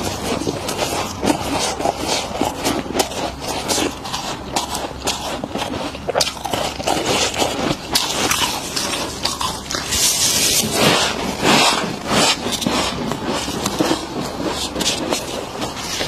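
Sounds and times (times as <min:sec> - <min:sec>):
frost being scraped: 0:00.0 - 0:16.0.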